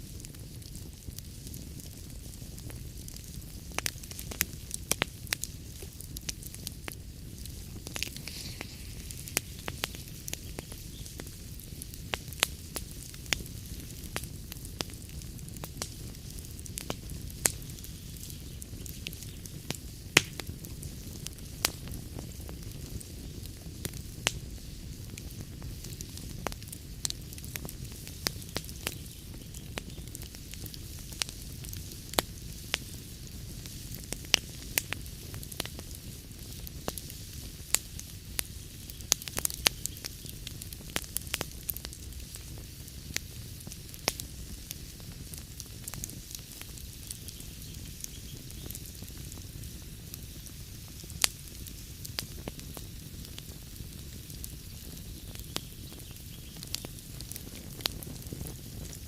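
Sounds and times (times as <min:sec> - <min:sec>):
flames rumbling and hissing: 0:00.0 - 0:59.0
log fire pops and snaps: 0:00.0 - 0:59.0.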